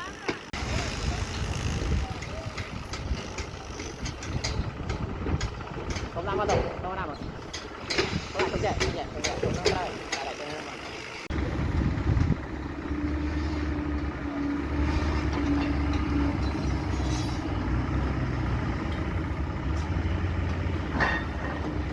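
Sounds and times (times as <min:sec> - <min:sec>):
engine running: 0:00.0 - 0:21.9.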